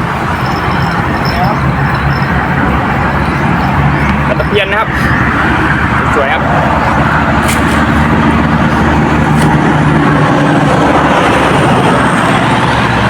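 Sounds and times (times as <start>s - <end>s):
passing vehicle engine hum: 0.0s - 13.0s
road traffic noise: 0.0s - 13.0s.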